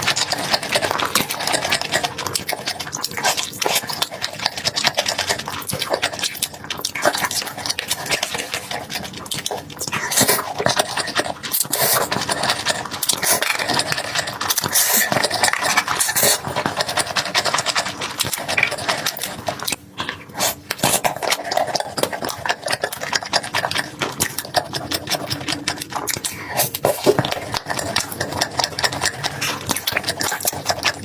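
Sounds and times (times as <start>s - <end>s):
crunchy chewing: 0.0s - 31.0s.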